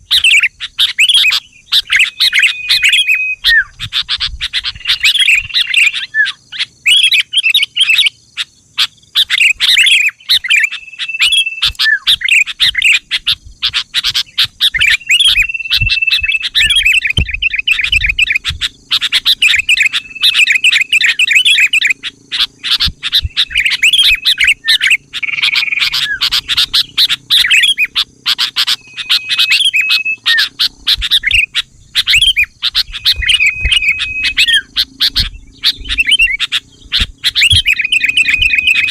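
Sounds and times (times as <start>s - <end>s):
bulbuls singing and chirping: 0.0s - 38.9s.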